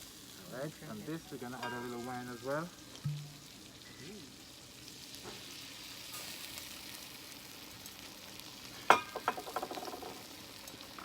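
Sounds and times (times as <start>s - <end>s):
onion and garlic sizzling in pan: 0.0s - 11.0s.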